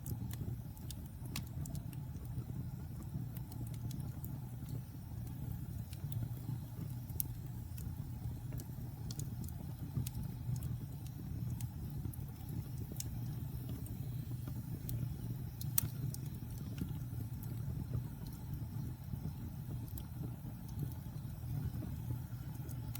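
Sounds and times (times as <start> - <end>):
fire popping: 0.0 - 22.9
wood fire crackling: 0.0 - 22.9.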